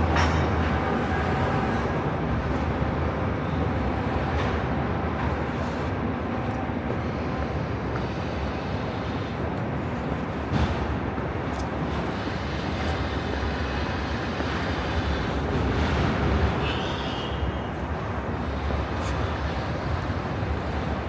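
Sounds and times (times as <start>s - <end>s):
passing traffic rumble: 0.0s - 21.0s.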